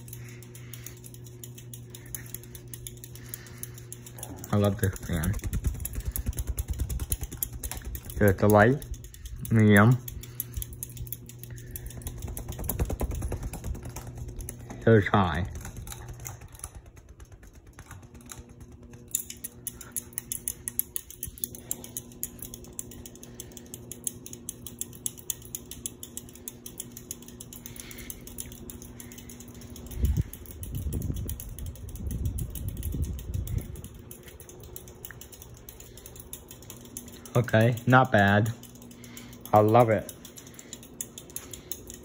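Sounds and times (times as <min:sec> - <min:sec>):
ceiling fan motor hum: 0:00.0 - 0:42.0
fast ticking: 0:00.0 - 0:42.0.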